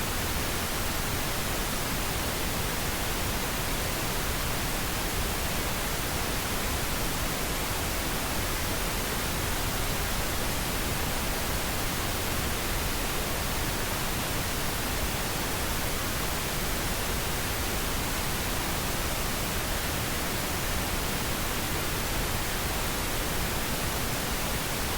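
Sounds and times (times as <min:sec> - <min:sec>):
steady white noise hiss: 0:00.0 - 0:24.9.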